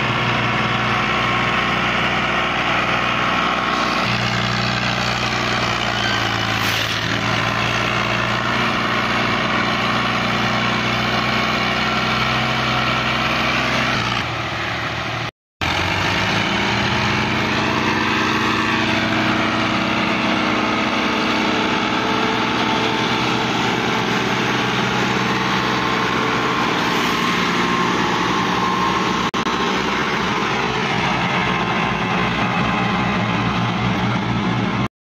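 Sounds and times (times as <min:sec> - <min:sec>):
tractor diesel engines running: 0:00.0 - 0:34.9.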